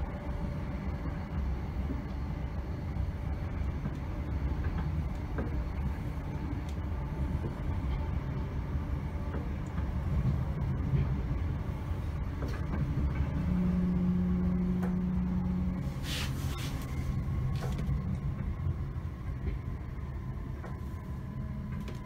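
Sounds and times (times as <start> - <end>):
steady hum: 0.0 - 22.0
train rumble inside carriage: 0.0 - 22.0.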